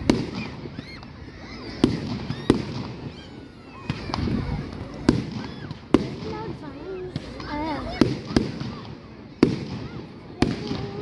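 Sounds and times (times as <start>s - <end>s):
murmur of crowd: 0.0s - 11.0s.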